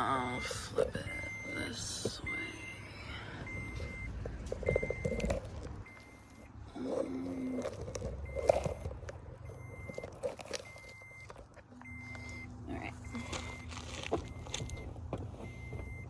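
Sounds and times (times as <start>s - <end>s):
high electronic beeps: 0.0s - 7.6s, 8.2s - 16.0s
car engine low rumble: 0.0s - 16.0s.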